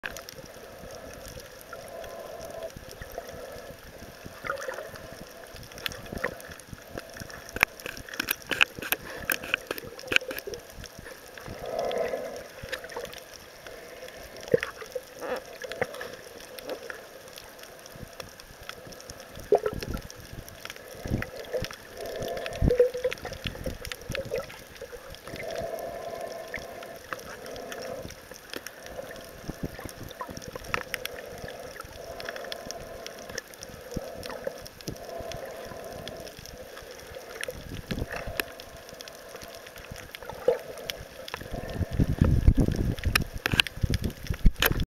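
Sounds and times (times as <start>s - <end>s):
air bubbles gurgling: 0.0s - 44.8s
underwater water noise: 0.0s - 44.8s.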